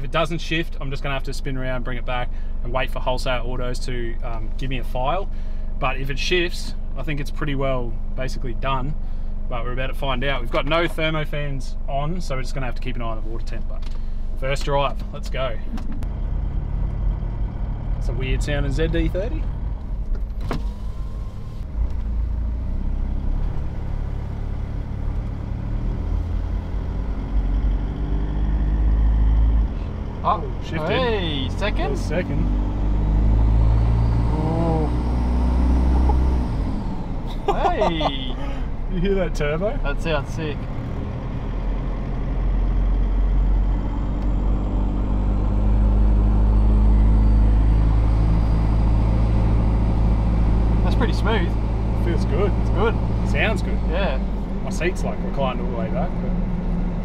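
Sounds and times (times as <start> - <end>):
diesel engine low drone: 0.0 - 57.0.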